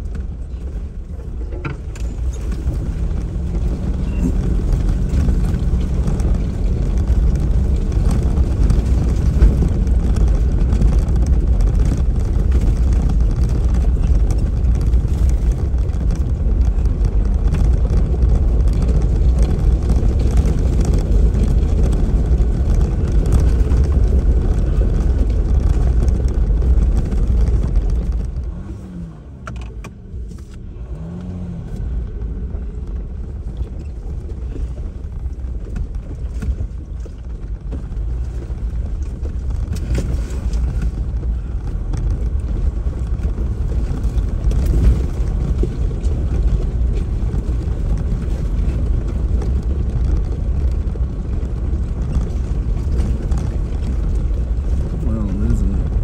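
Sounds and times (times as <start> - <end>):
off-road vehicle engine and tyres rumbling: 0.0 - 56.0.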